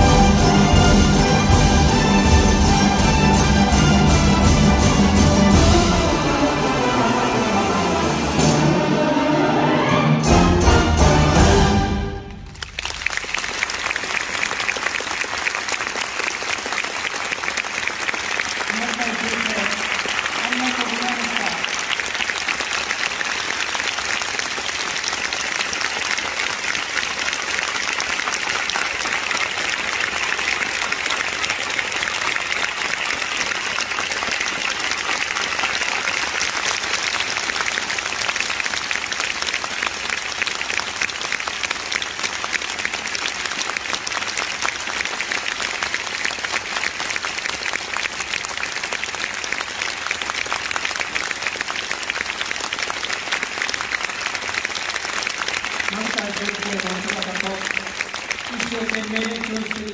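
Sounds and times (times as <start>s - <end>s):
audience applauding: 0.0s - 8.4s, 9.8s - 59.9s.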